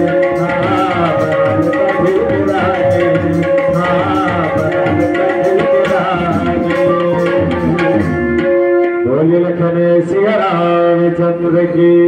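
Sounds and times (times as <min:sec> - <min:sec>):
man singing into a microphone: 0:00.0 - 0:12.0
tabla: 0:00.0 - 0:12.0.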